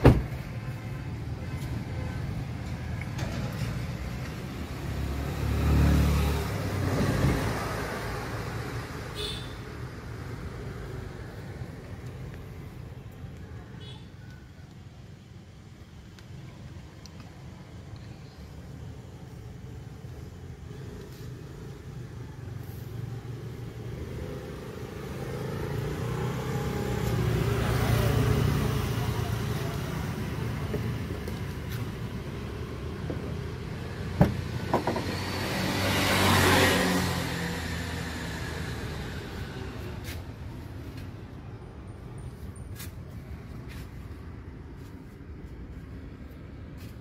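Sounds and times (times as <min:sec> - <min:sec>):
muffled vehicles passing by: 0:00.0 - 0:09.1, 0:16.4 - 0:47.0.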